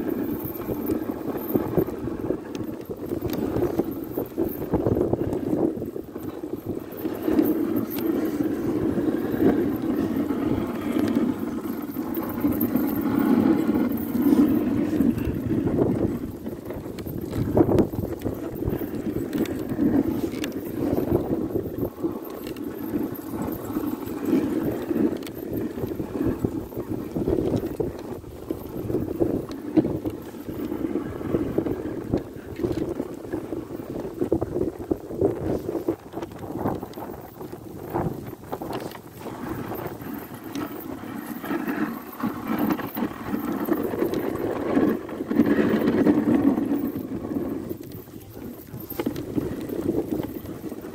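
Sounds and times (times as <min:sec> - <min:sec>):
sled runners scraping over snow: 0:00.0 - 0:50.9
wind on microphone: 0:00.0 - 0:50.9.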